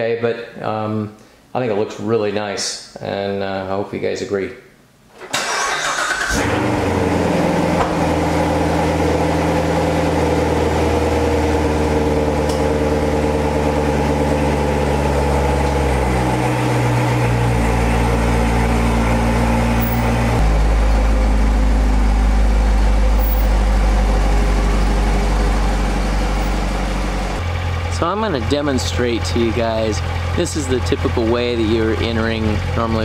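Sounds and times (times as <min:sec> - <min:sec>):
car engine idling: 0:05.5 - 0:33.0.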